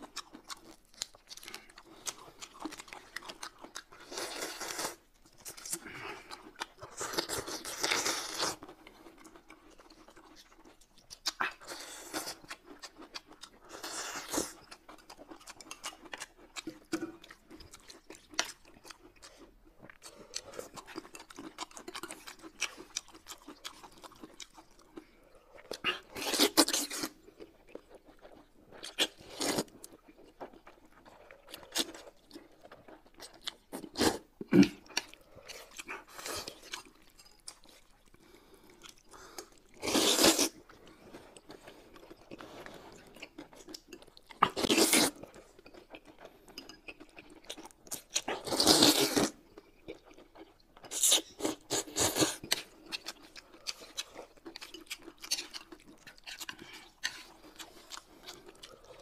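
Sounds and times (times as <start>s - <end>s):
chewing and mouth clicks: 0.0s - 59.0s.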